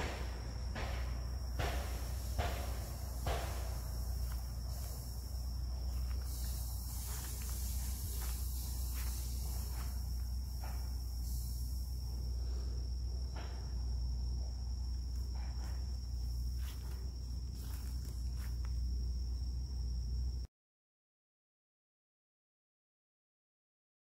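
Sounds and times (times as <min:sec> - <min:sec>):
crickets chirring: 0:00.0 - 0:20.5
low steady rumble: 0:00.0 - 0:20.5.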